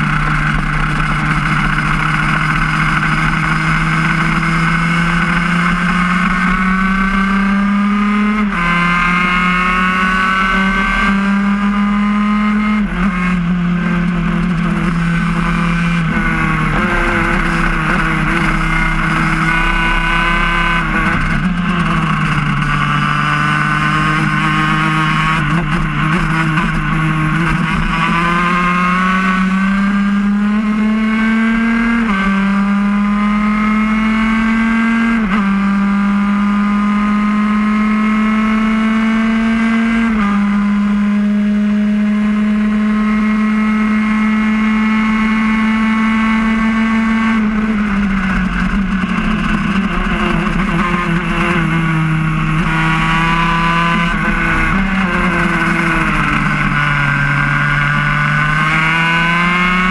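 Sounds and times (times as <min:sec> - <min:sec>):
kart two-stroke engine revving: 0:00.0 - 0:59.9.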